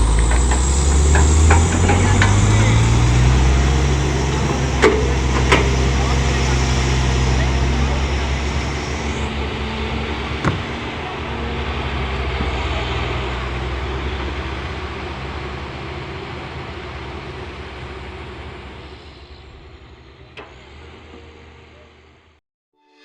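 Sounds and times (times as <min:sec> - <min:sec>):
heavy machinery engine running: 0:00.0 - 0:22.4.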